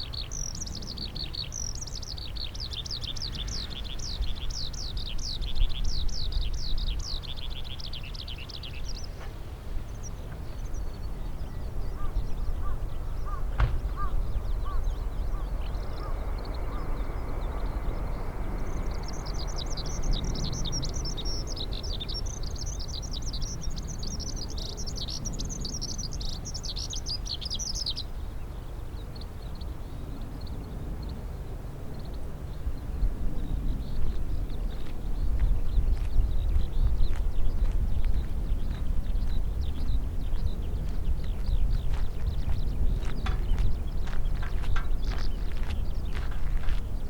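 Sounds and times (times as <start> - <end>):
small birds chirping rapidly: 0.0 - 47.0
wind rumble on microphone: 0.0 - 47.0.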